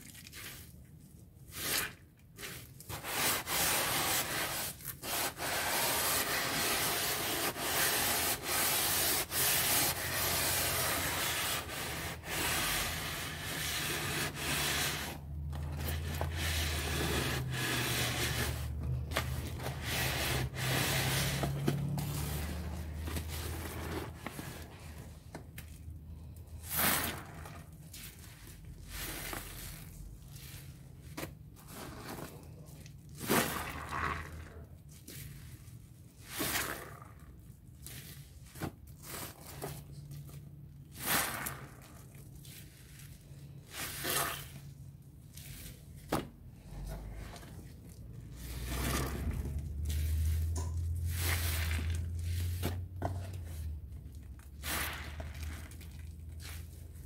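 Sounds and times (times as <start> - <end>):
wet sponges squelching: 0.0 - 57.0.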